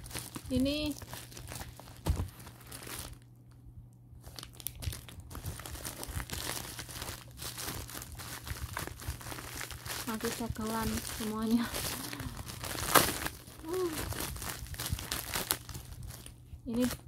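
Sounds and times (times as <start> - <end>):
plastic packaging crinkling: 0.0 - 3.3, 4.2 - 17.0.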